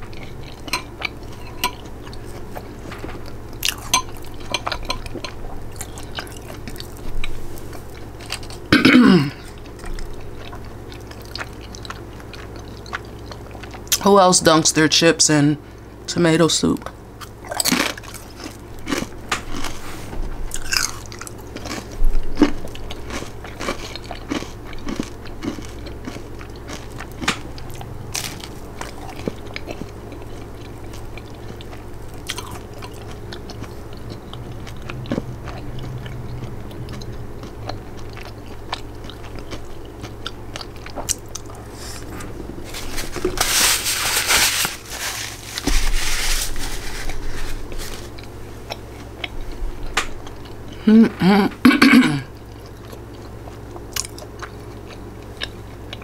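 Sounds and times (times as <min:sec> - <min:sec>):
chewing crunchy chips: 0:00.0 - 0:14.1, 0:16.8 - 0:50.9, 0:51.9 - 0:56.0.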